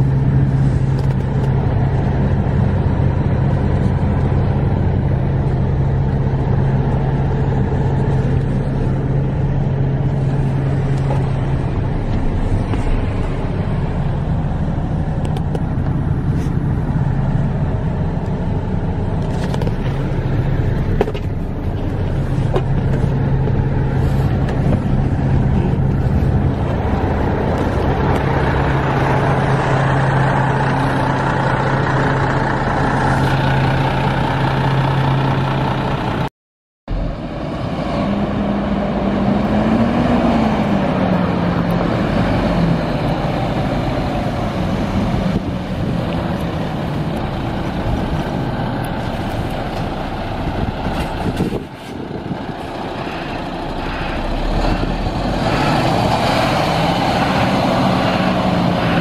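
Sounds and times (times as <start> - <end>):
diesel truck engine idling: 0.0 - 36.3, 36.9 - 59.0.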